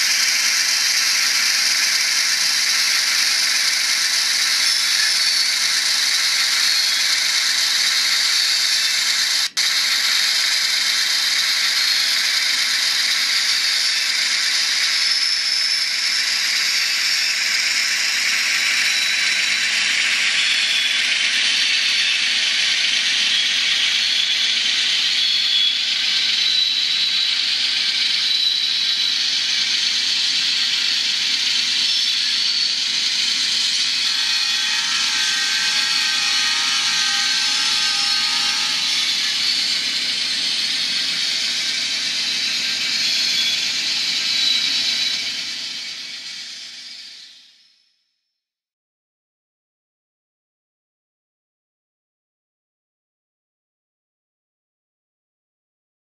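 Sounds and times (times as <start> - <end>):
mechanical rattle of model train: 0.0 - 47.3.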